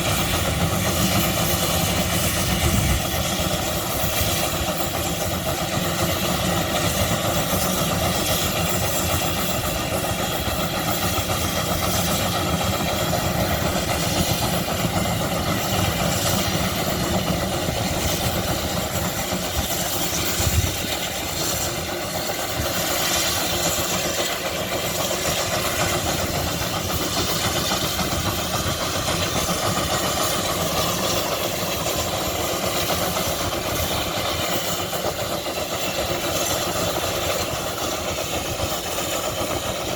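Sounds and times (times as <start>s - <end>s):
engine knock: 0.0s - 39.9s
engine running with low pulsing: 0.0s - 39.9s.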